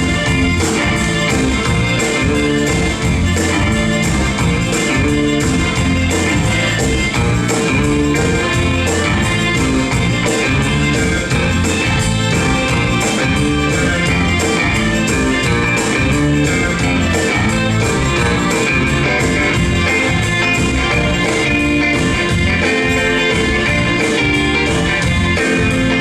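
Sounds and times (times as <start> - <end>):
lead guitar: 0.0 - 26.0
live band instrumental: 0.0 - 26.0.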